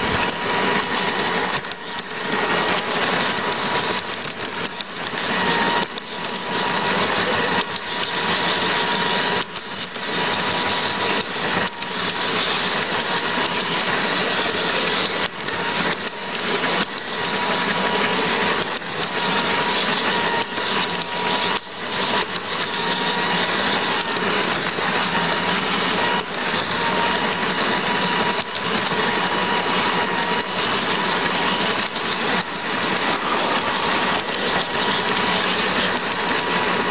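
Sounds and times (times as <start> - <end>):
electric motor whine: 0.0 - 36.9
wheels rattling on rails: 0.0 - 36.9.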